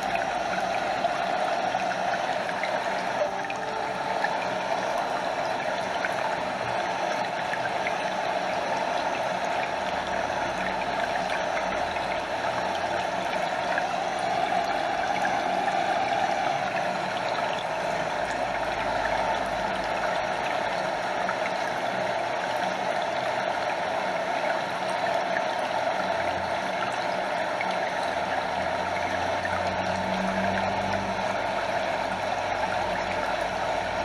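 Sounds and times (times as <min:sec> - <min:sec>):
small waterfall: 0:00.0 - 0:34.0
stream flowing: 0:00.0 - 0:34.0.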